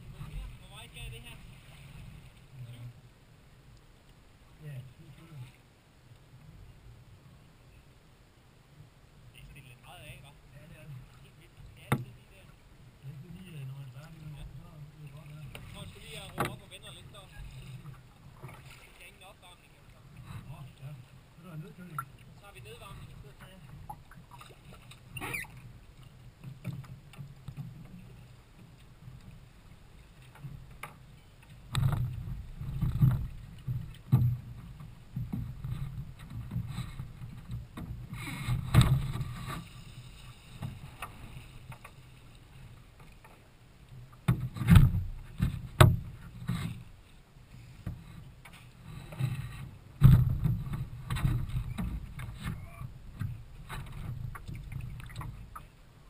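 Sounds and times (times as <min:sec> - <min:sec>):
water splashing against kayak hull: 0:00.0 - 0:06.6, 0:09.4 - 0:56.0.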